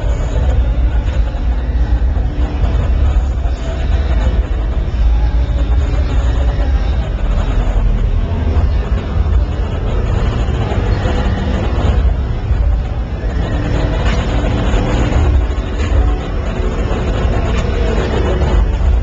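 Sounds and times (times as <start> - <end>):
crowd chatter: 0.0 - 19.0
deep low rumble: 0.0 - 19.0.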